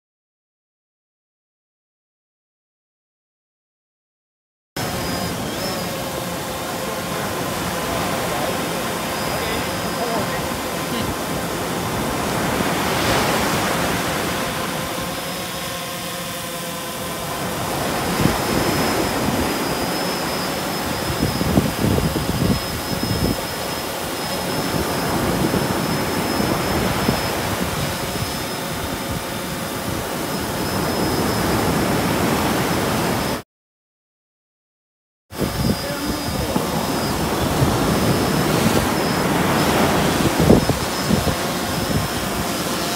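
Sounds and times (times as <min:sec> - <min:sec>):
surf: 0:04.8 - 0:33.4, 0:35.4 - 0:42.9
thin high whine: 0:04.8 - 0:33.4, 0:35.3 - 0:42.9
wind: 0:04.8 - 0:33.4, 0:35.3 - 0:42.9.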